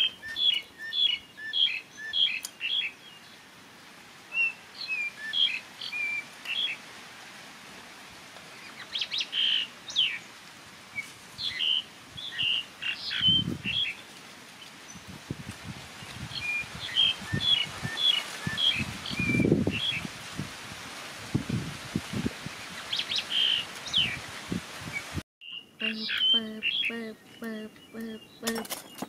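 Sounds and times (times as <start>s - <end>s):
small birds chirping: 0.0s - 3.5s, 4.3s - 6.8s, 8.5s - 15.4s, 16.0s - 20.1s, 22.4s - 29.0s.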